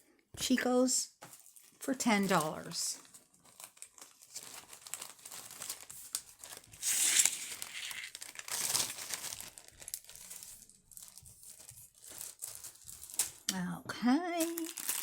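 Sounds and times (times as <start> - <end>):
packaging crinkling: 1.2 - 13.5, 14.4 - 15.0.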